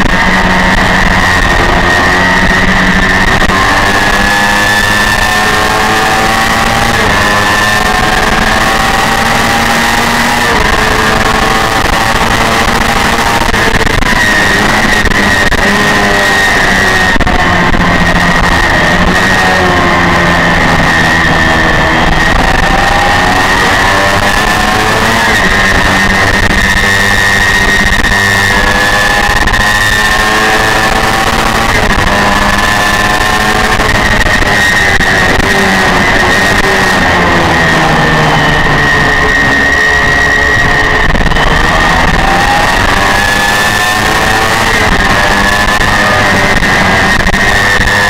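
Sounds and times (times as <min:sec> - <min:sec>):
motorcycle engine revving high: 0:00.0 - 0:48.0
wind noise: 0:00.0 - 0:48.0.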